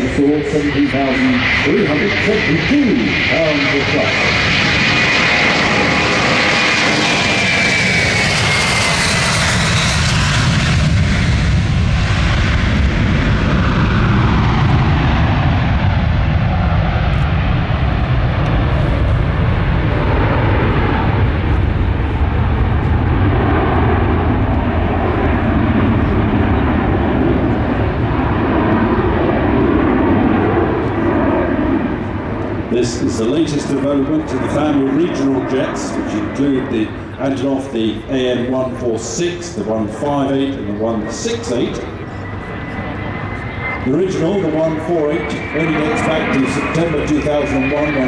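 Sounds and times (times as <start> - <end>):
high engine whine: 0.0 - 48.0
jet engine roar: 0.0 - 48.0.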